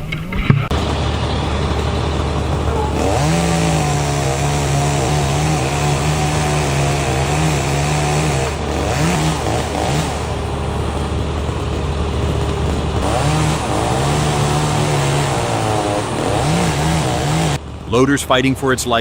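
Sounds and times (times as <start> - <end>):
low heavy machine engine hum: 0.0 - 19.0
chainsaw cutting wood: 0.6 - 19.0.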